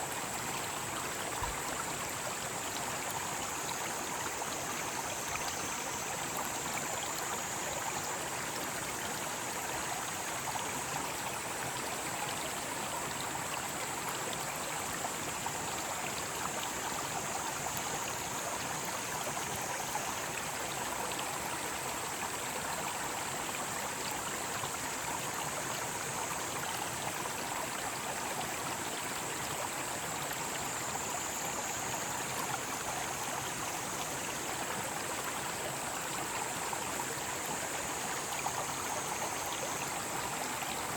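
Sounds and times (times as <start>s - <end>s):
stream flowing over rocks: 0.0s - 40.9s
cicada chorus: 0.1s - 12.5s, 14.4s - 40.9s.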